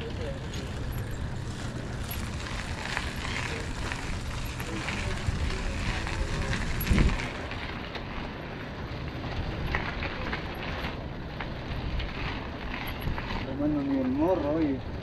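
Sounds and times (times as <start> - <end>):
wind buffeting microphone: 0.0 - 7.7, 8.7 - 14.2.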